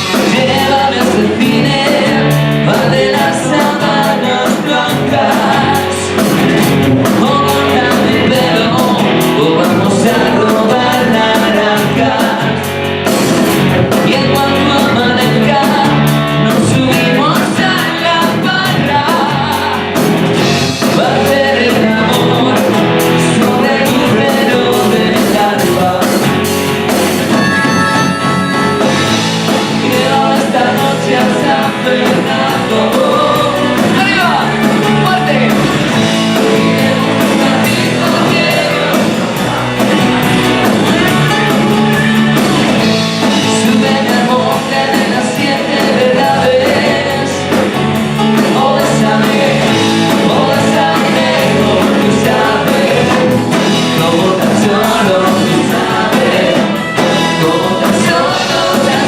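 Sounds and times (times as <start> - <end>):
lead vocal singing: 0.0 - 59.0
pop-rock band playing: 0.0 - 59.0
steady drum beat: 0.0 - 59.0.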